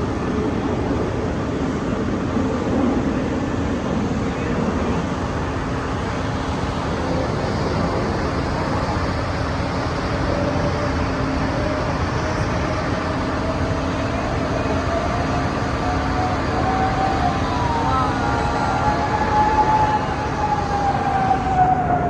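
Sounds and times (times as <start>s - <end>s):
aircraft engine rumbling: 0.0s - 22.0s
rising engine whine: 0.0s - 22.0s.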